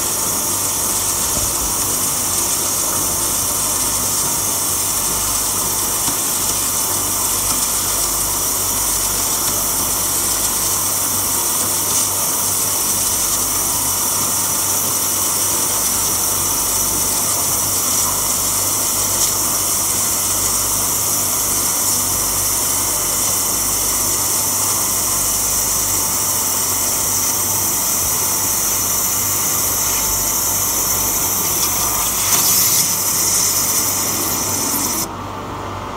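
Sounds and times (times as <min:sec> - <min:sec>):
waterjet cutter hissing: 0:00.0 - 0:35.1.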